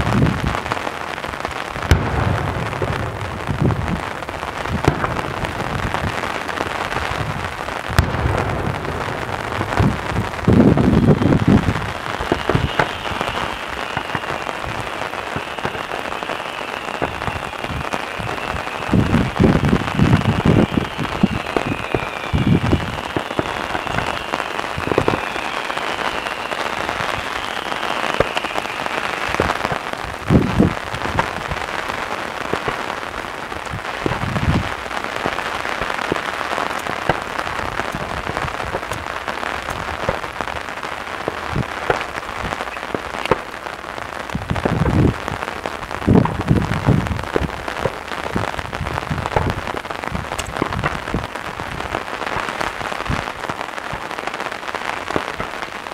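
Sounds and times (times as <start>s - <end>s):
faint firework whistles: 0.0s - 45.6s
firework shells booming: 0.0s - 55.9s
fireworks crackling: 0.0s - 55.9s.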